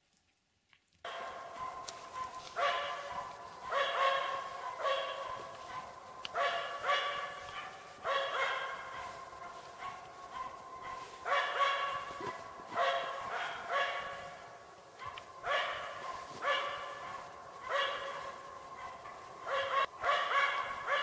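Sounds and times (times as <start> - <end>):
dog barking: 1.0 - 21.0.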